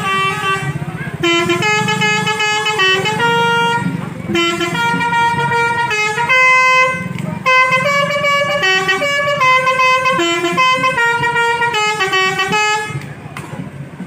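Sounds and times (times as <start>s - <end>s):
bus horn playing a tune: 0.0s - 13.1s.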